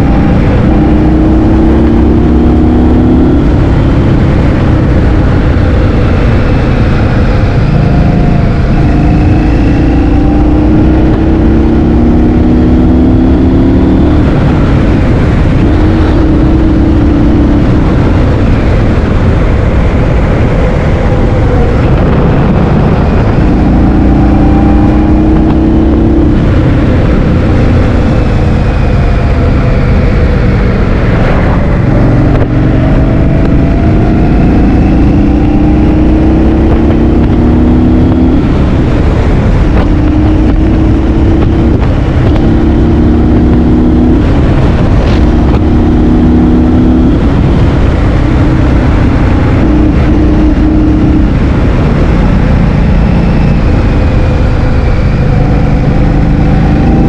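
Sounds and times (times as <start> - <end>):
vehicle engine: 0.0 - 57.0
wind buffeting microphone: 0.0 - 57.0.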